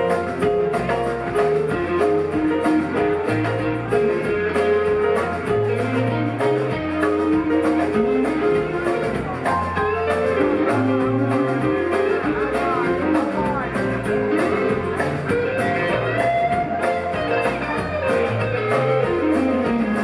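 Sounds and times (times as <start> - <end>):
bass: 0.0 - 20.0
electric guitar: 0.0 - 20.0
steady drum beat: 0.0 - 20.0.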